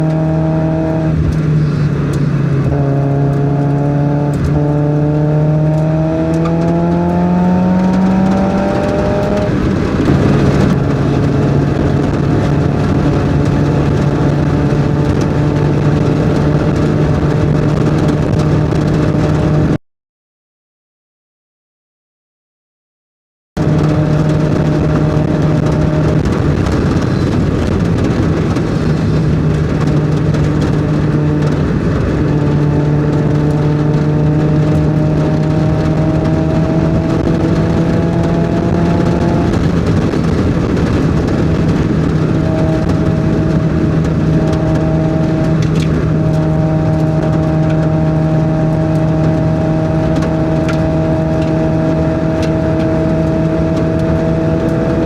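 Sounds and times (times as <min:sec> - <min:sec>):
car engine revving: 0:00.0 - 0:19.8, 0:23.6 - 0:55.0
steady rush of noise: 0:00.0 - 0:19.8, 0:23.6 - 0:55.0.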